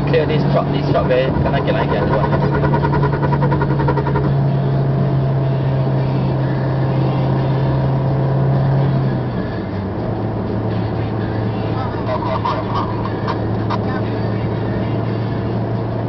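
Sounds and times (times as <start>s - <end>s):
car engine droning: 0.0s - 16.0s
tyre and road noise: 0.0s - 16.0s.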